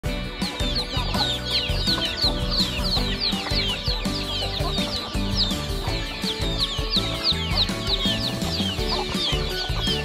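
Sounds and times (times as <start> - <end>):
background music: 0.0 - 10.0
chicks peeping: 0.0 - 10.0
hens clucking: 0.4 - 10.0.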